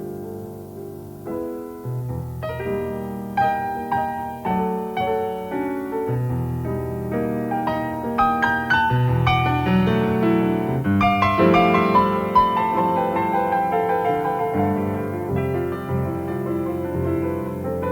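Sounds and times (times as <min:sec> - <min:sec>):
jazz keyboard chords: 0:00.0 - 0:17.9.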